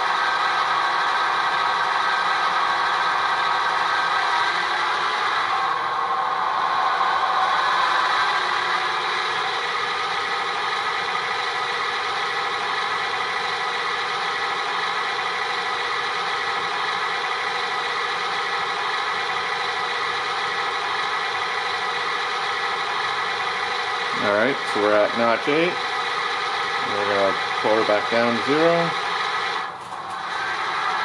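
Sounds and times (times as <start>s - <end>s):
model diesel engine sound: 0.0s - 31.0s.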